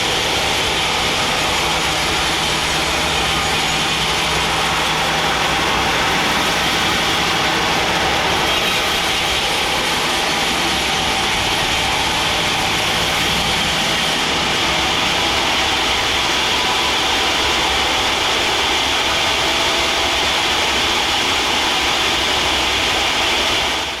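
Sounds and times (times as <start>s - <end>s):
sawmill machinery sawing wood: 0.0s - 24.0s.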